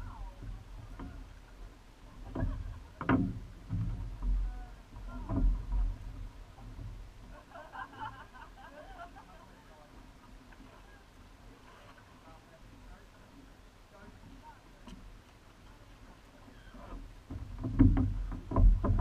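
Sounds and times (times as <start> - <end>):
faint voices: 0.0 - 3.3, 4.2 - 17.1
boat knocks and clunks: 0.0 - 19.0.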